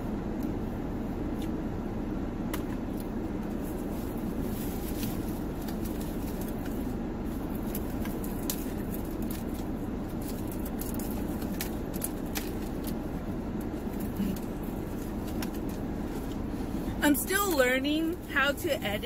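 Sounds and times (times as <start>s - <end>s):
car cabin engine hum: 0.0s - 19.0s.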